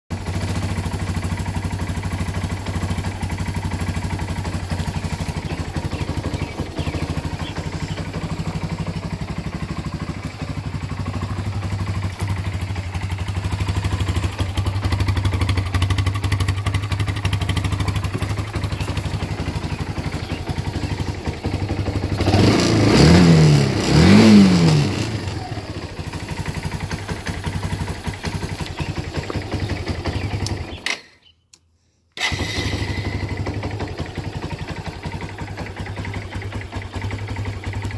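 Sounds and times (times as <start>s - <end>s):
atv engine idling and revving: 0.1s - 31.1s, 32.2s - 37.9s.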